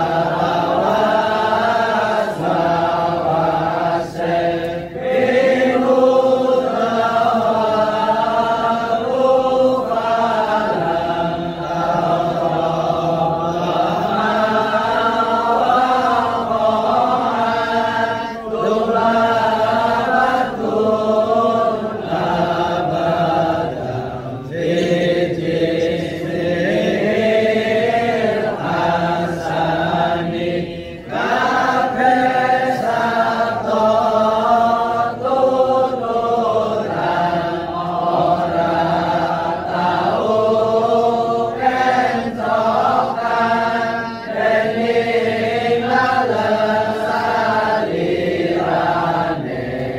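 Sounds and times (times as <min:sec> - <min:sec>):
voices chanting: 0:00.0 - 0:49.9.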